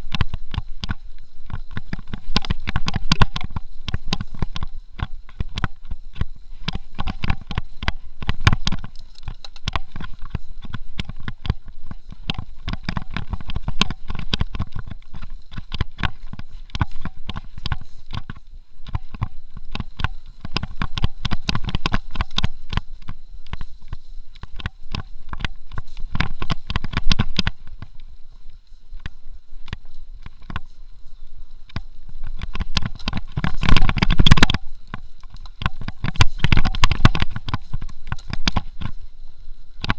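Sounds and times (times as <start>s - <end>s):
bike clattering over rough trail: 0.0s - 39.9s
wind: 0.0s - 39.9s.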